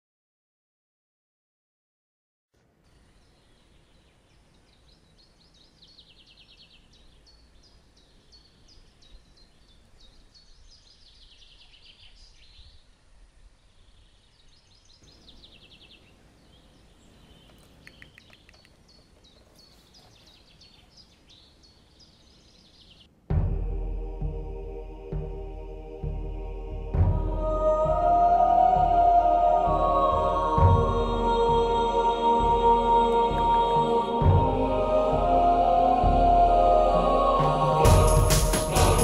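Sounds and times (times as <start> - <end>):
low background noise: 2.6 - 37.9
songbirds chirping and trilling: 2.6 - 39.0.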